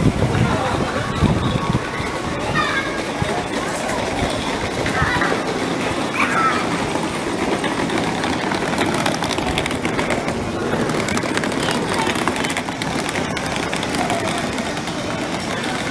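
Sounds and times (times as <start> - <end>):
passers-by talking: 0.0 - 15.9
traffic hum: 0.0 - 15.9.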